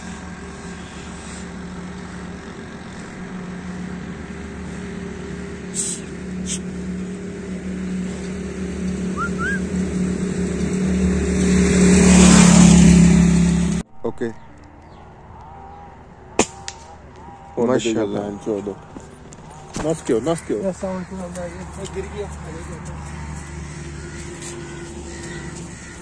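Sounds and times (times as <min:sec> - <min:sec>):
vehicle engine running: 0:00.0 - 0:13.9, 0:16.7 - 0:26.0
traffic passing: 0:00.0 - 0:26.0.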